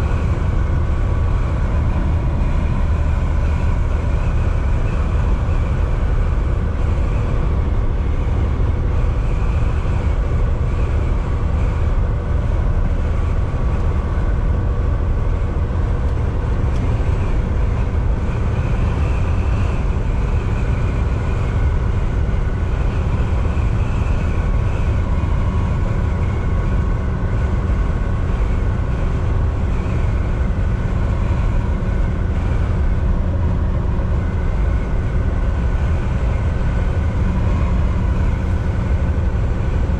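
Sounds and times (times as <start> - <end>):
road and tyre rumble: 0.0 - 39.9
truck engine drone: 0.0 - 39.9.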